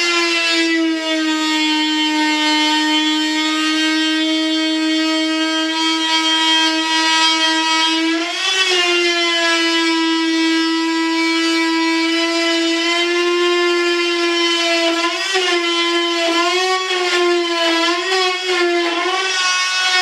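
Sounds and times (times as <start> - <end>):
rotary tool whining while cutting: 0.0 - 20.0.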